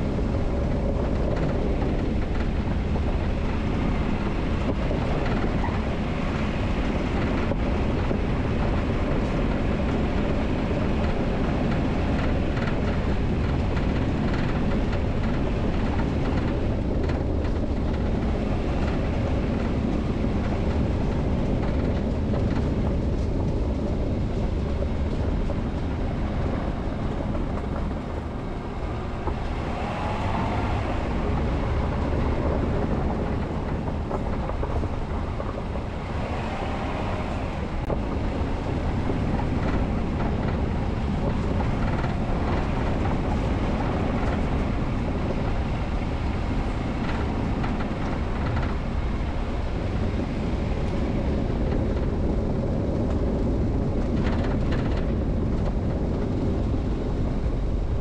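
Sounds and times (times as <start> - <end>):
vehicle tyres rumbling on dirt road: 0.0 - 58.0.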